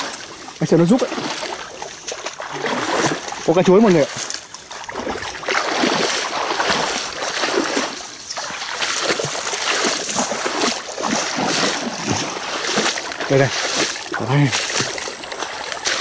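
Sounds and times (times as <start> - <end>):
footsteps splashing in water: 0.0 - 16.0.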